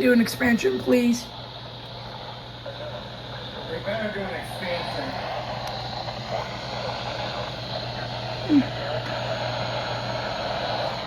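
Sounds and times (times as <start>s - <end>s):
low hum: 0.0s - 11.0s
steady hiss: 0.0s - 11.0s.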